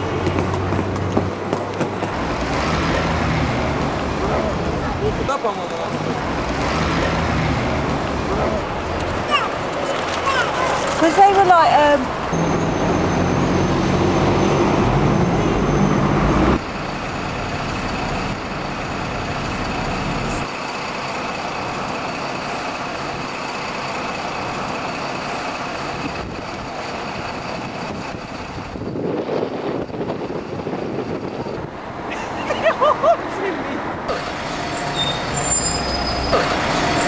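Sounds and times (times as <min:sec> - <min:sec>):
bus engine running: 0:00.0 - 0:37.0
road traffic noise: 0:00.0 - 0:37.0.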